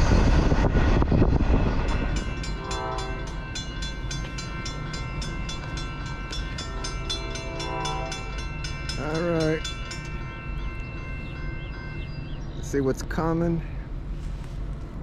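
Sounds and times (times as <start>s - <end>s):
train horn: 0.0s - 12.2s
crossing bell dinging: 0.0s - 13.9s
freight train wheel rumble: 0.0s - 15.0s.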